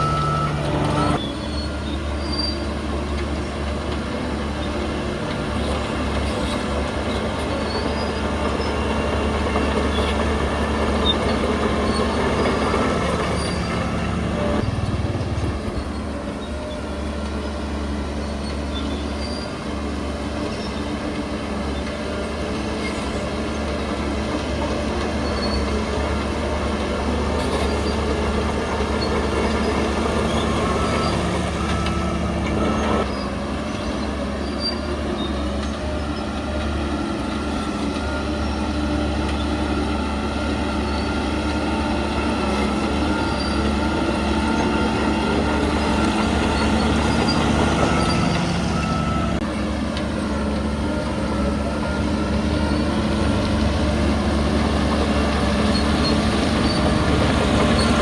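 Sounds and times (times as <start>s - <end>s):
bulldozer diesel engine running: 0.0s - 58.0s
steel tracks grinding and squealing: 0.0s - 58.0s.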